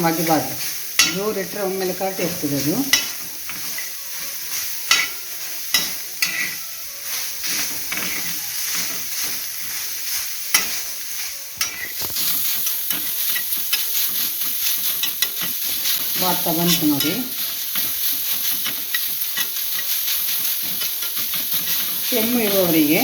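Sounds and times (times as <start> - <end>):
onion sizzling in a pan: 0.0 - 23.0.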